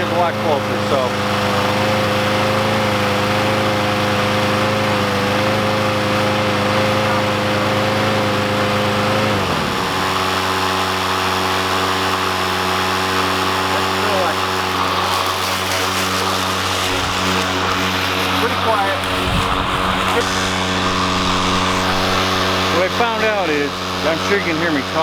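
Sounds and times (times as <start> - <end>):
electric mower humming: 0.0 - 25.0
gas mower engine running: 0.0 - 25.0.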